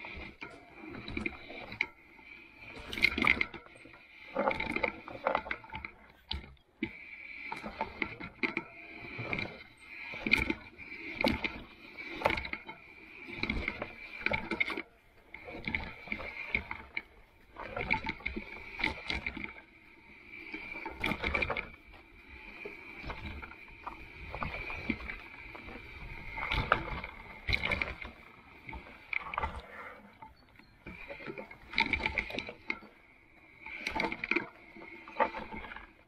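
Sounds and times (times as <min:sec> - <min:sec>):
bike knocking and rattling: 0:00.0 - 0:19.7, 0:20.5 - 0:33.0.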